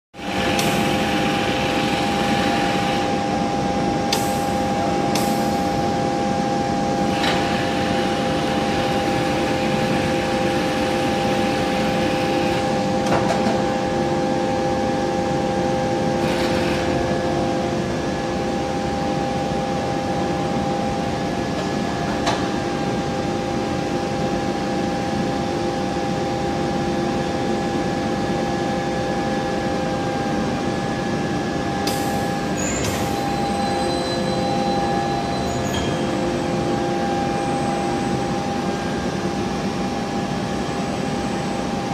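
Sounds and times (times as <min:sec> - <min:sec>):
machinery hum with high tones: 0:00.2 - 0:41.9.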